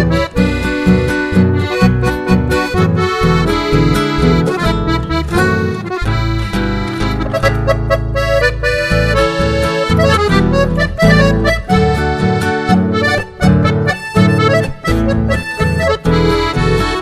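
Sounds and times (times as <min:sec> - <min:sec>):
accordion-led folk music: 0:00.0 - 0:17.0.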